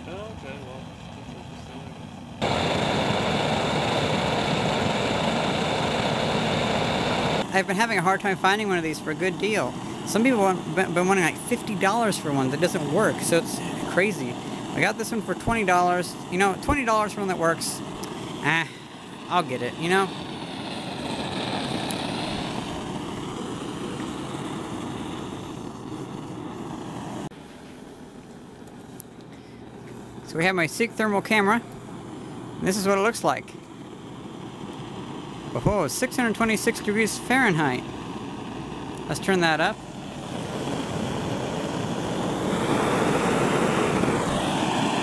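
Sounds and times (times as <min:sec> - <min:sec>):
blowtorch flame rushing: 0:00.0 - 0:45.0.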